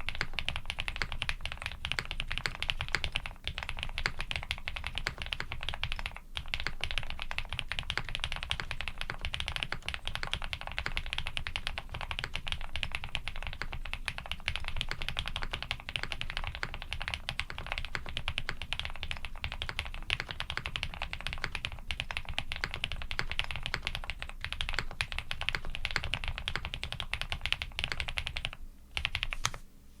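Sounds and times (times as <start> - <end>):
fast mechanical keyboard typing: 0.0 - 29.6.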